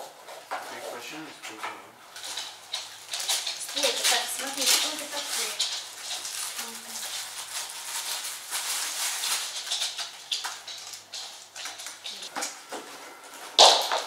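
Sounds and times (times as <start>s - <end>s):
fabric rustling: 2.2s - 13.9s.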